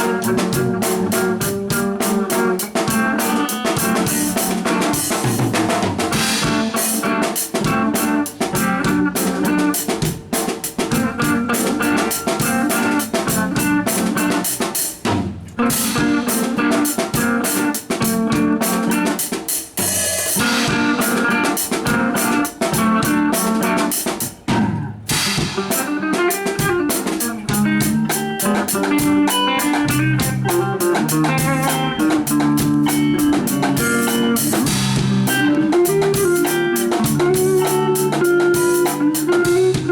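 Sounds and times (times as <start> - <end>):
drum kit beat: 0.0 - 39.9
guitar: 0.0 - 39.9.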